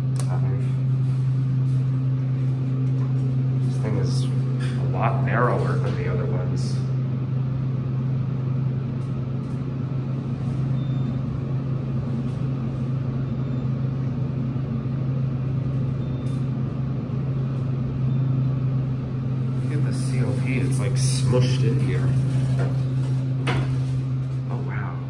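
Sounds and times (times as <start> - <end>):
elevator hum and rumble: 0.0 - 25.0.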